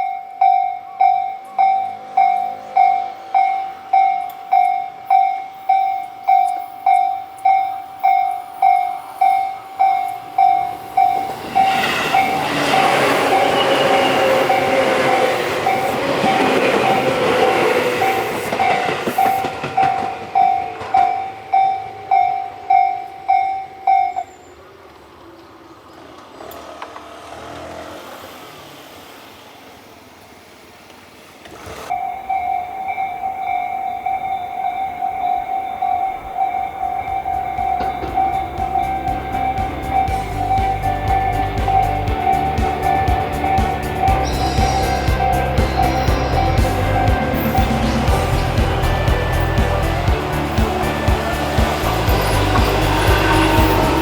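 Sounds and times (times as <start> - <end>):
level-crossing alarm ringing: 0.0 - 24.8, 31.9 - 54.0
train passing: 0.0 - 54.0.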